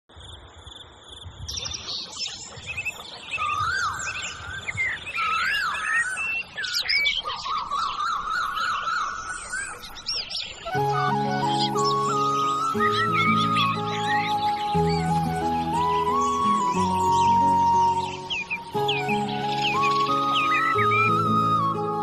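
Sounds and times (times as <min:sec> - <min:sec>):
birds singing and calling: 0:00.2 - 0:22.0
high bird trill: 0:03.4 - 0:21.8.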